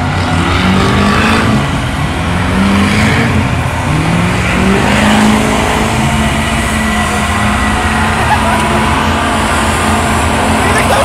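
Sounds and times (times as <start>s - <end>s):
car engines revving: 0.0s - 11.0s
tires squealing on pavement: 0.0s - 11.0s.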